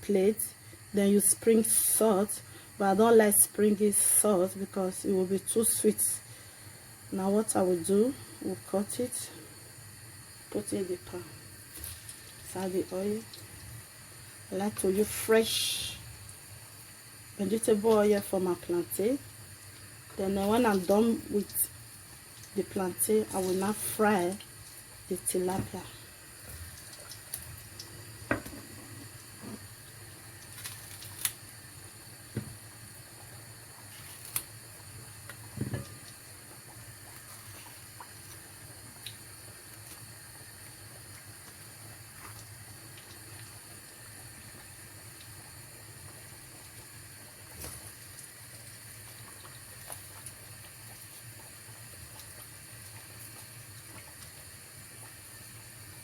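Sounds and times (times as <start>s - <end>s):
plantain frying in oil: 0.0s - 56.0s.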